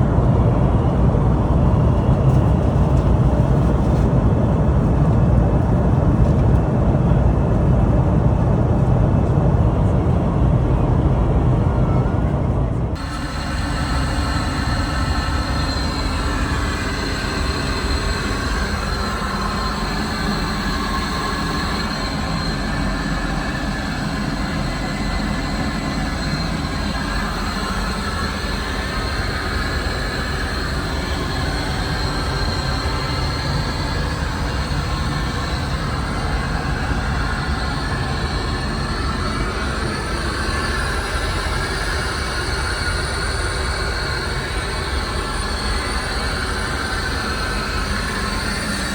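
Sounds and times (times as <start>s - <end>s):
faint high whine: 9.3s - 48.9s.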